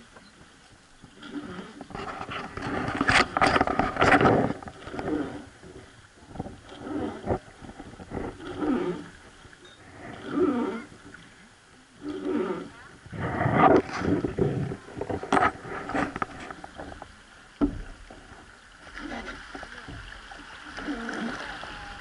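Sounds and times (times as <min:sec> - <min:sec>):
water splashing against boat hull: 0:00.0 - 0:22.0.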